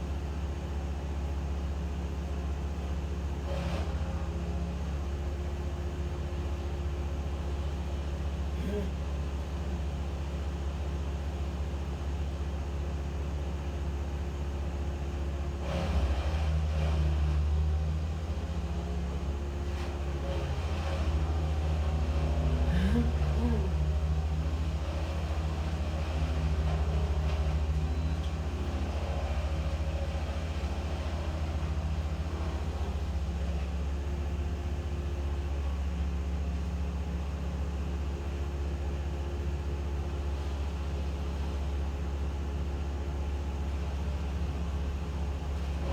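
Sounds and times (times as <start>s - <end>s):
engine humming at low revs: 3.2s - 45.9s.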